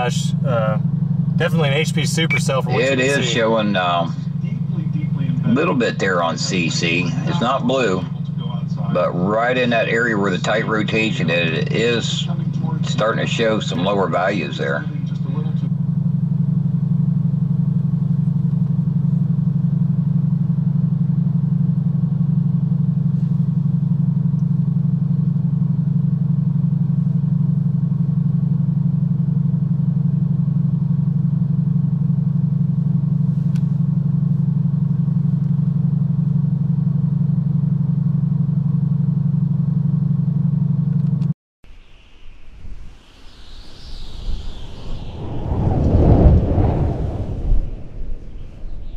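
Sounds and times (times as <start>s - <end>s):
vehicle cabin drone: 0.0s - 48.9s.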